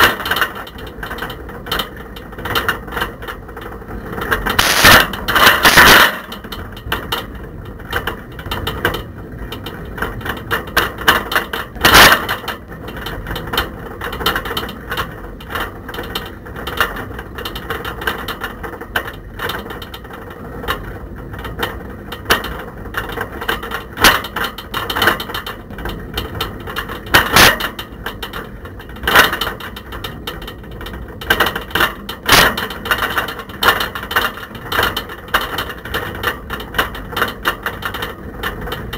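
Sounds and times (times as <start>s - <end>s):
camera rattling in bicycle basket: 0.0s - 38.9s.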